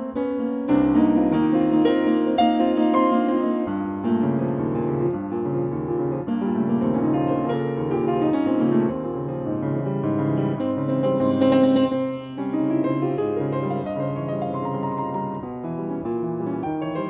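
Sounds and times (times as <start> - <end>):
solo piano playing: 0.0 - 17.0.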